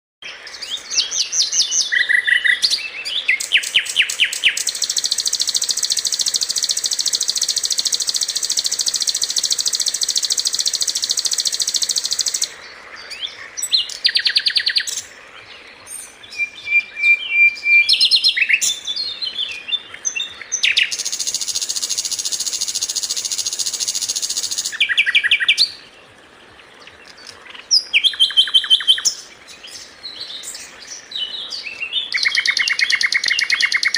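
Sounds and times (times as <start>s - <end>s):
bird chirps: 0.4s - 25.9s, 26.8s - 33.9s
songbird trilling: 0.6s - 15.1s, 15.8s - 25.8s, 26.8s - 33.9s.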